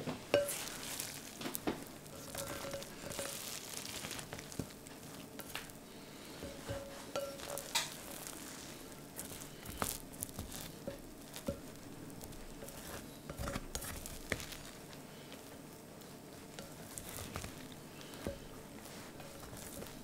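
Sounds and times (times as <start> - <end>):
spatula tapping pot: 0.3 - 14.8, 16.5 - 20.0
spatula scraping rice: 0.3 - 20.0.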